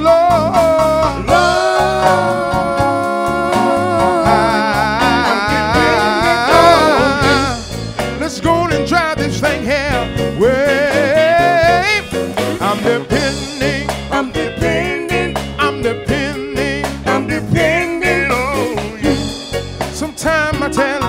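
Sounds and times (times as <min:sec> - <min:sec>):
gospel band playing: 0:00.0 - 0:21.0.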